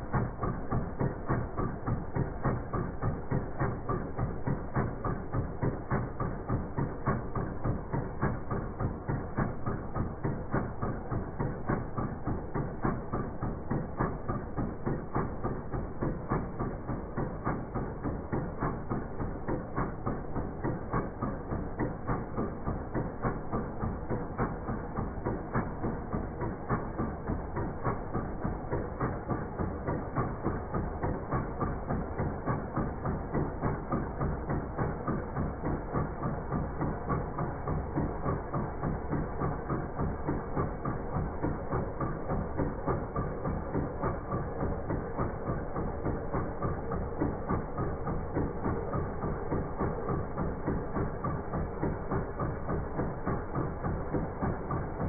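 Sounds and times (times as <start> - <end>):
diesel engine clattering: 0.0 - 55.0.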